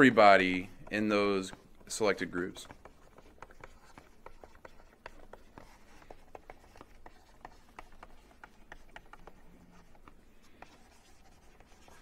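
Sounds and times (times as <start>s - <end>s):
stylus tapping on tablet screen: 0.4s - 12.0s.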